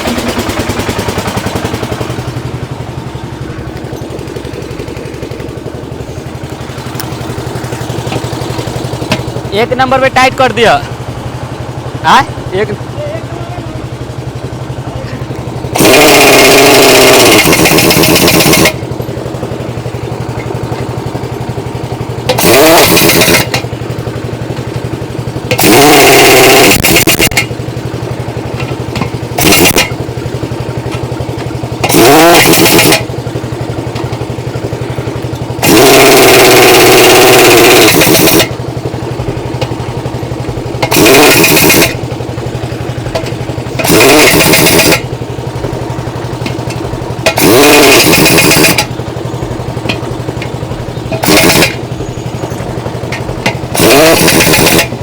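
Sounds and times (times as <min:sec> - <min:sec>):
impact wrench bursts: 0:00.0 - 0:10.8, 0:15.3 - 0:55.0
engine running steadily: 0:00.0 - 0:55.0.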